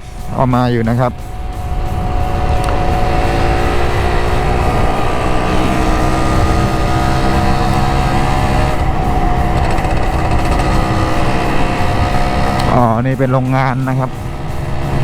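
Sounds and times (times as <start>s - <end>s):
motorcycle two-stroke engine cruising: 0.0s - 15.0s
wind rushing over microphone: 0.0s - 15.0s.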